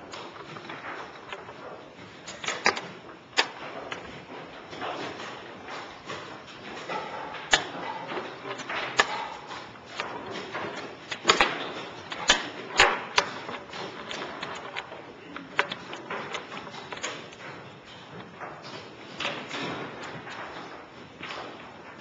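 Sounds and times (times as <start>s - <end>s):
chess pieces knocking on board: 0.0s - 22.0s.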